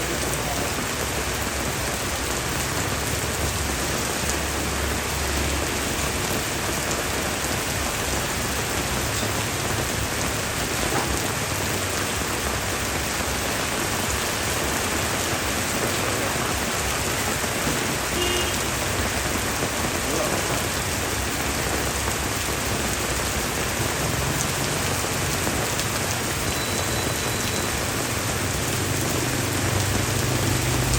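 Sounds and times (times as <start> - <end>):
rain on hard surfaces: 0.0 - 30.9.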